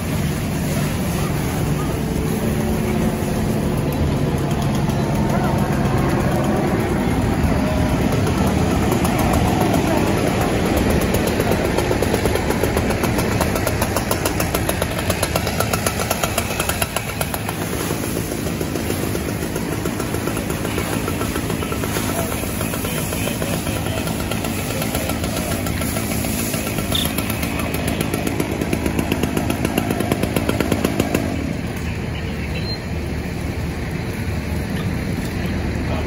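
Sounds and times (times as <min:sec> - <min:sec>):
engine running: 0:00.0 - 0:36.0
hose stream rushing: 0:00.0 - 0:36.0.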